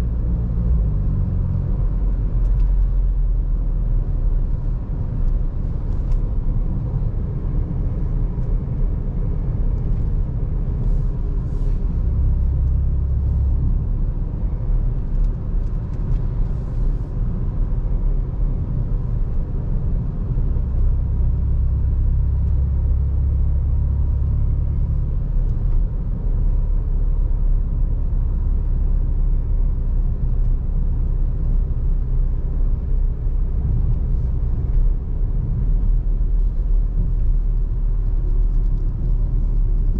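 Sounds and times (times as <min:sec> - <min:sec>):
car engine rumbling: 0:00.0 - 0:39.9
road noise: 0:00.0 - 0:39.9.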